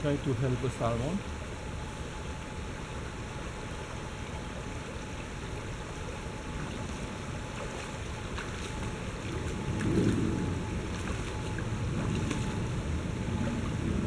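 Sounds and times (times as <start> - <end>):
light splashes from wading: 2.4 - 14.0.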